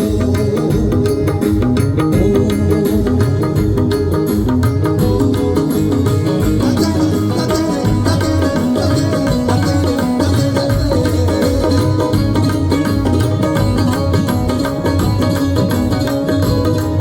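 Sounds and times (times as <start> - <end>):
live folk band music: 0.0 - 17.0.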